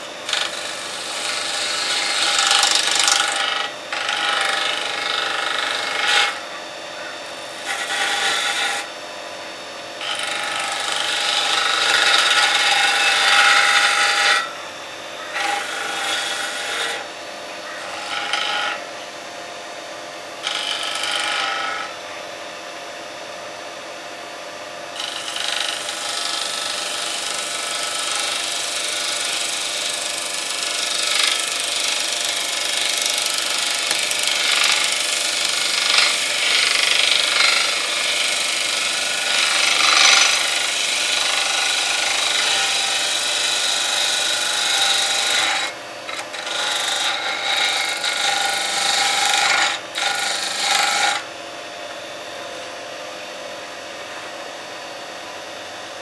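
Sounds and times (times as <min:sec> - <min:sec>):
lathe tool shaving wood: 0:00.0 - 0:06.5, 0:07.3 - 0:09.0, 0:10.0 - 0:18.9, 0:20.4 - 0:22.0, 0:25.0 - 0:51.3
lathe motor hum: 0:00.0 - 0:17.0, 0:17.7 - 0:19.4, 0:20.4 - 0:22.0, 0:25.0 - 0:51.3.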